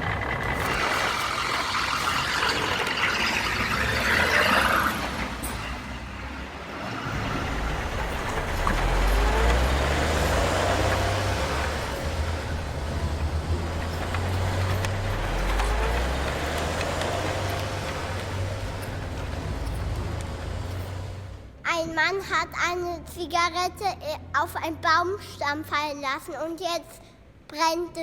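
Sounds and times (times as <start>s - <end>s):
truck engine revving: 0.0s - 24.6s.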